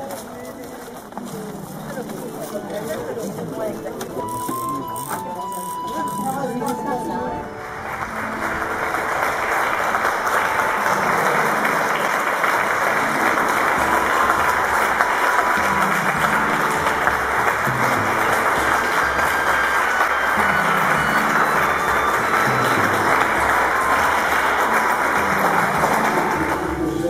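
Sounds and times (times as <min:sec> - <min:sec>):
crowd applauding: 0:00.0 - 0:27.0.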